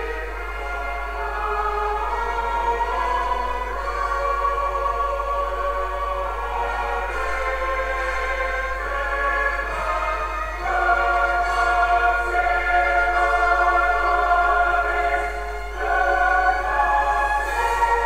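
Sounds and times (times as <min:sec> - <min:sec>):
music with slow sustained chords: 0:00.0 - 0:18.0.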